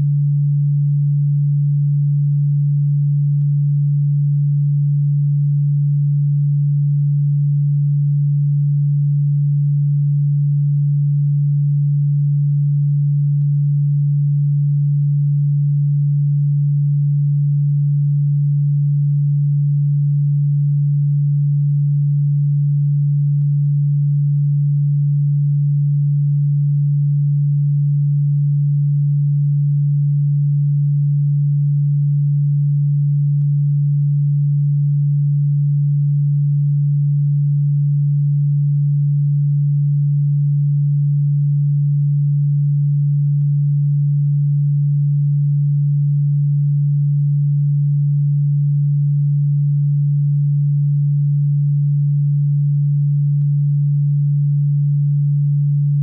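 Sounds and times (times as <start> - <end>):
low electronic sine tone: 0.0 - 56.0.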